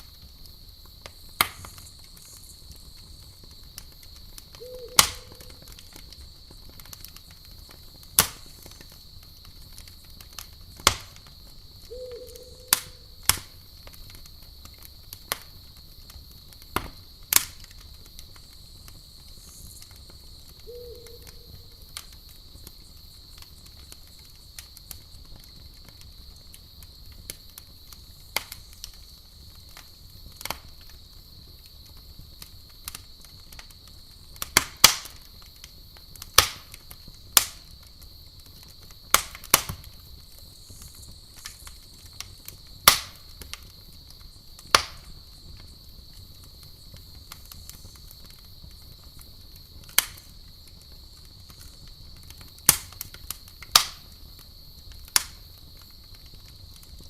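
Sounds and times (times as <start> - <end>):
campfire crackling and popping: 0.0 - 57.0
crickets droning: 0.0 - 57.0.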